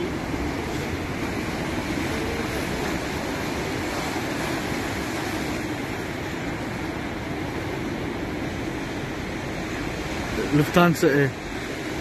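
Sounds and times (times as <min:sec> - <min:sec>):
surf hissing: 0:00.0 - 0:12.0
wind: 0:00.0 - 0:12.0.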